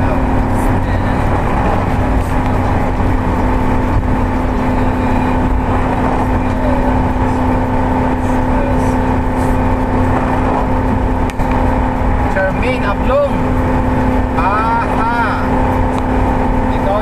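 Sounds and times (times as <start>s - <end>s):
car engine hum: 0.0s - 17.0s
road noise inside car: 0.0s - 17.0s.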